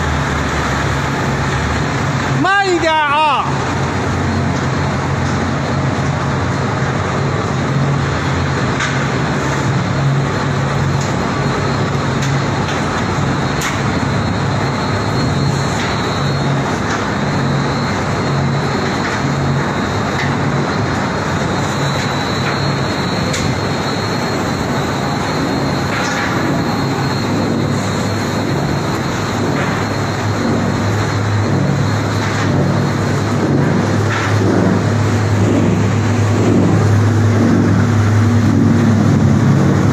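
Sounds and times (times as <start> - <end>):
industrial machinery din: 0.0 - 39.9
low motor hum: 3.2 - 39.9.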